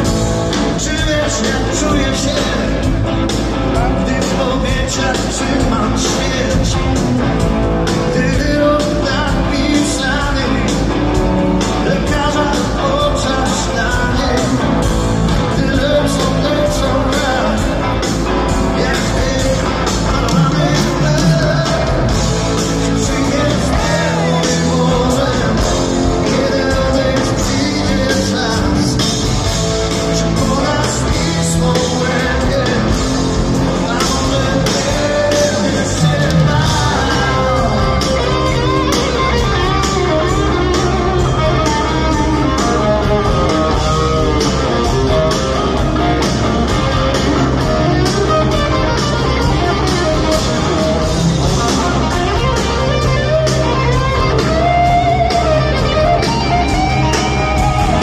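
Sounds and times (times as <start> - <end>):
bass guitar: 0.0 - 58.0
electric guitar: 0.0 - 58.0
steady drum beat: 0.0 - 58.0
person singing: 0.5 - 7.1, 7.9 - 29.3, 29.9 - 58.0.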